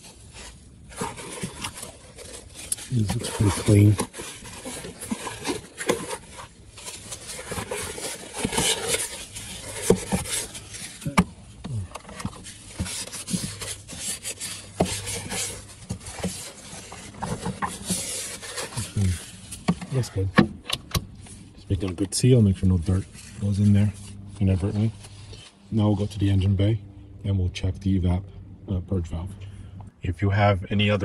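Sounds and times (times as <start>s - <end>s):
paper towel rubbing on plastic: 0.0s - 20.2s, 21.2s - 26.7s.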